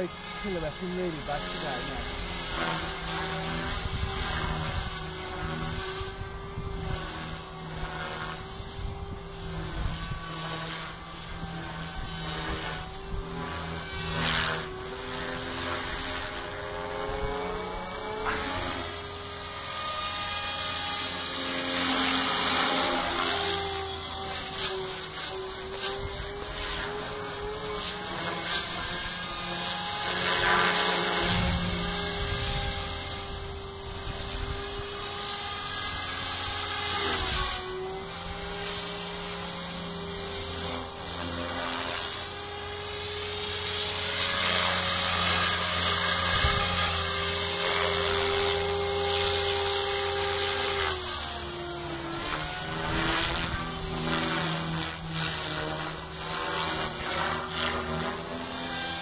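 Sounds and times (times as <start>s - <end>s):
model helicopter rotor drone: 0.0s - 59.0s.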